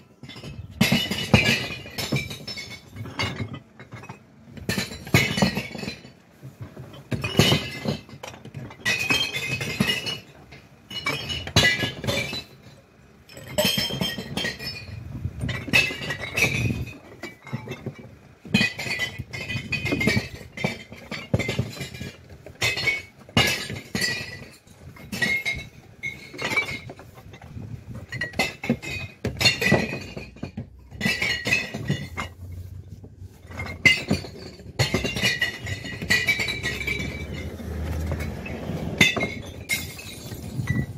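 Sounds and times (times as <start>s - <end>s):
glass bottles clinking: 0.0s - 40.9s.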